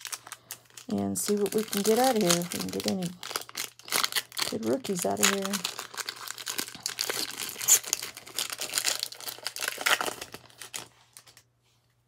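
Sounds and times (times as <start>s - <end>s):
foil wrapper tearing and crinkling: 0.0s - 11.4s.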